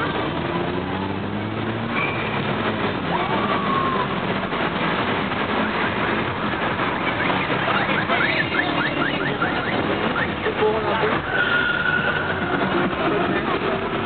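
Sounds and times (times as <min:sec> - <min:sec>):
background vehicle noise: 0:00.0 - 0:14.0
car engine running: 0:00.0 - 0:14.0.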